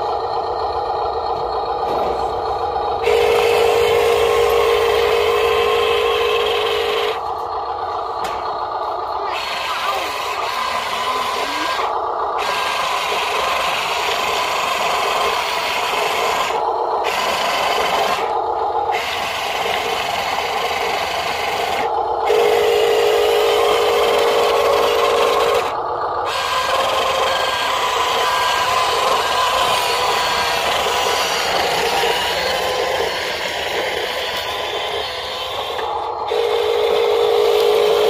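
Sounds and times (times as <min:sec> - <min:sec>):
toy truck motor whirring: 0:00.0 - 0:38.0.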